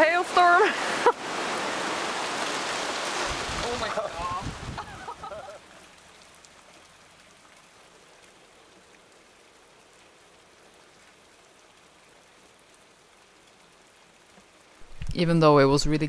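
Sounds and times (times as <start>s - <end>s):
hail and rain pattering: 0.0s - 15.9s.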